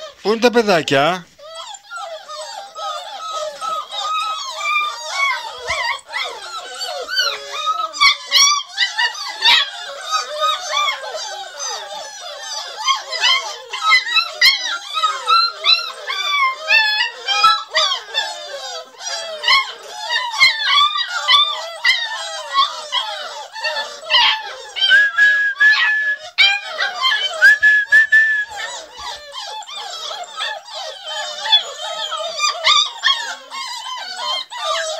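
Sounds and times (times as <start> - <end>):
puppies whining and yelping: 0.0 - 34.9.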